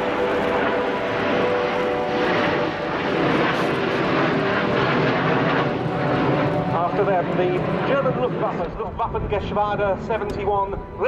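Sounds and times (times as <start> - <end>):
fighter jets flying past: 0.0 - 11.0.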